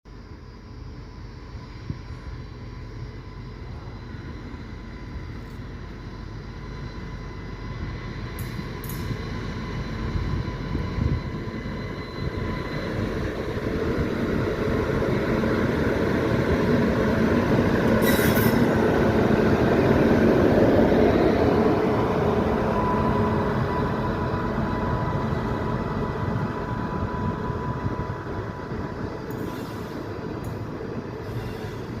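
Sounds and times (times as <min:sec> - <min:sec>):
thin steady whine: 0:00.1 - 0:32.0
train wheels rumbling on rails: 0:00.3 - 0:32.0.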